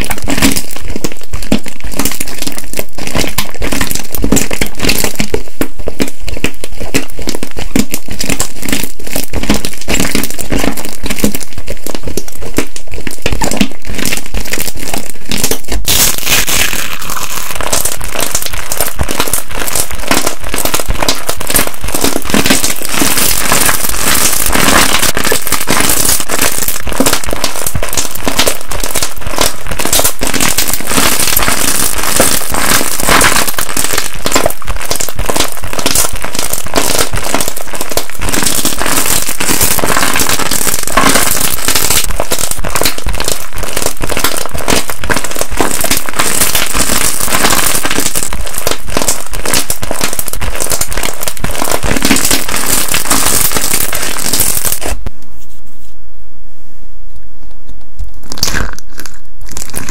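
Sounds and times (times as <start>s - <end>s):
crunchy slime crackling and popping: 0.0s - 55.5s, 57.8s - 59.9s.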